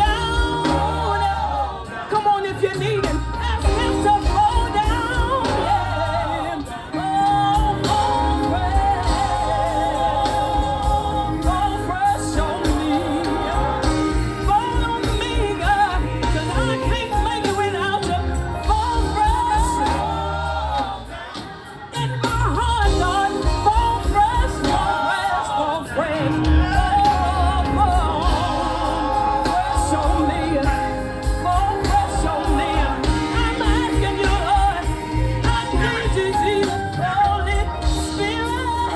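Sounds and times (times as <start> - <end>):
gospel singing with band: 0.0 - 38.9.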